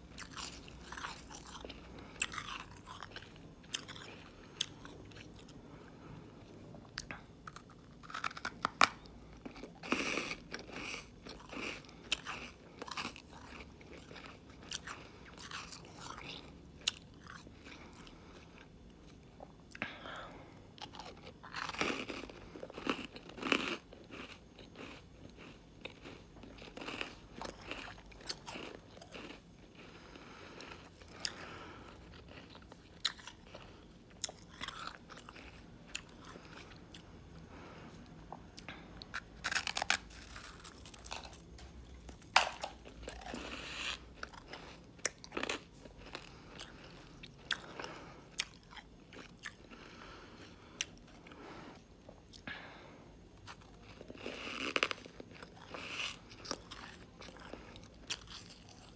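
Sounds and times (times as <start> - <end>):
person crunching shaved ice: 0.1 - 5.5, 7.4 - 18.1, 20.8 - 29.9, 30.6 - 37.0, 39.1 - 51.0, 53.4 - 58.9.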